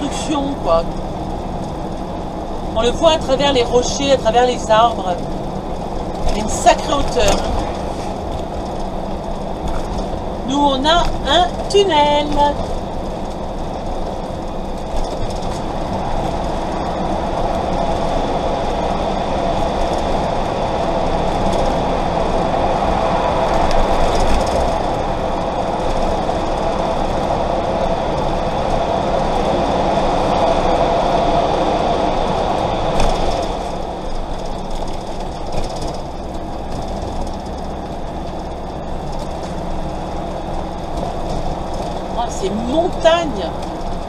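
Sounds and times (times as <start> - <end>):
vehicle engine and tyre rumble: 0.0 - 44.0.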